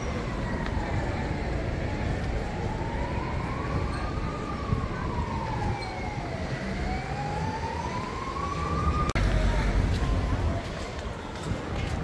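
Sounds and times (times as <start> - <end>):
emergency vehicle siren wailing: 0.0 - 9.7
street traffic noise: 0.0 - 12.0.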